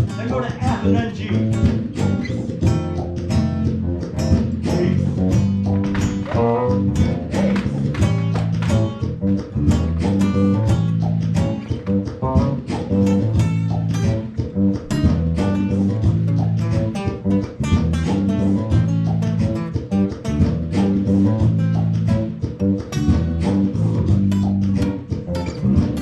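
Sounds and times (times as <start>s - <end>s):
picked guitar: 0.0s - 26.0s.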